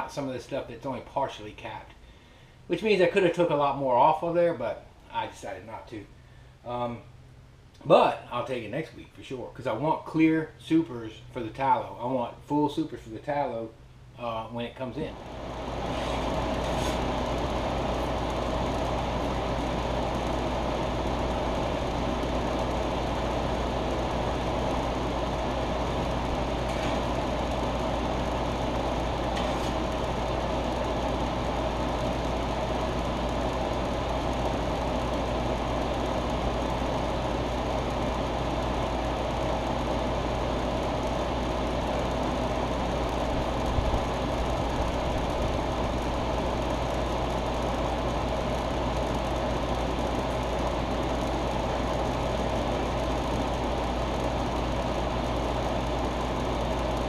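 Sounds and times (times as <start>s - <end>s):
motor or fan humming: 11.2s - 57.0s.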